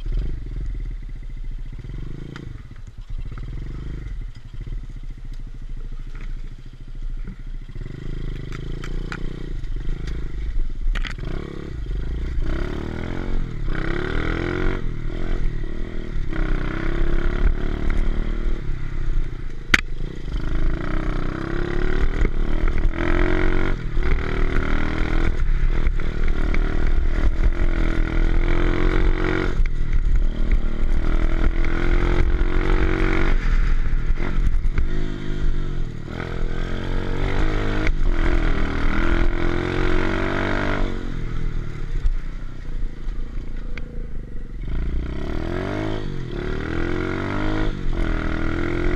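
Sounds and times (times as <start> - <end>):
motorbike engine revving: 0.0 - 6.9, 7.5 - 48.9.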